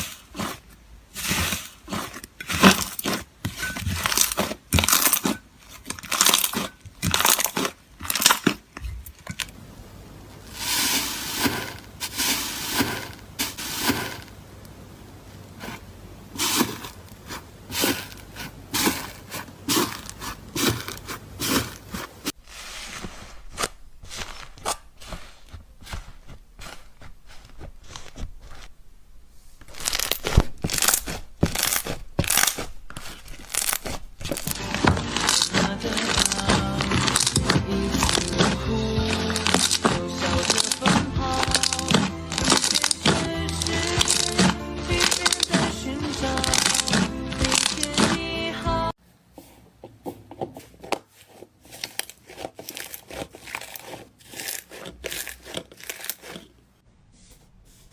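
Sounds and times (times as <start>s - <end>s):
slime squelching by hand: 0.0s - 9.6s, 15.5s - 28.9s, 29.6s - 48.8s, 49.4s - 56.8s.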